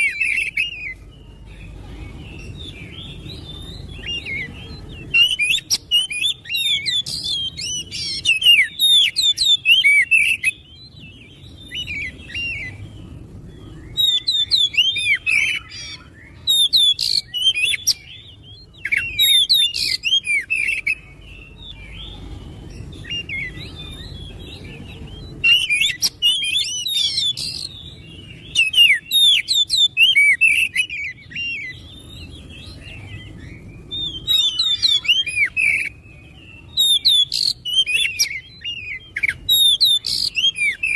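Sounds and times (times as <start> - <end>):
bird singing rapid whistles: 0.0 - 40.9.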